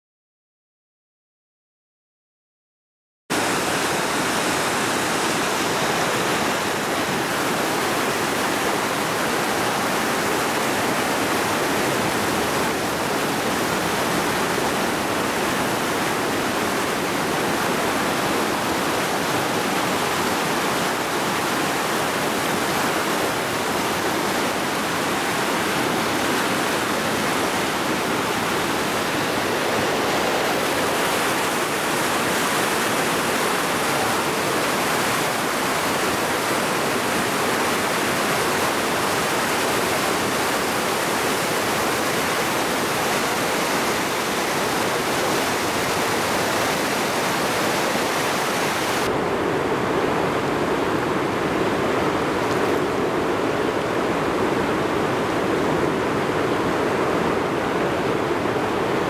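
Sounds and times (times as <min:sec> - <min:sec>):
whitewater rapids rushing: 0:03.3 - 0:59.0.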